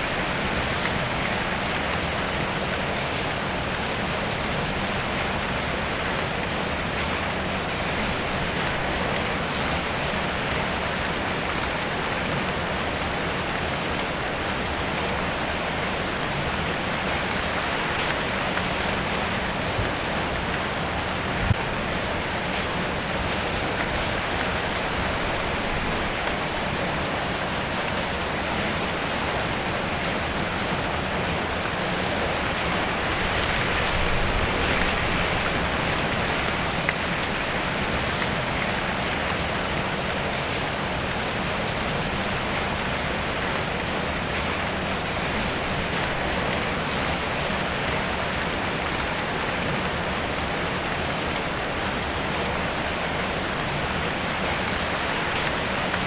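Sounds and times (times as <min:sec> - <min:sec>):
rain on a car roof: 0:00.0 - 0:56.0.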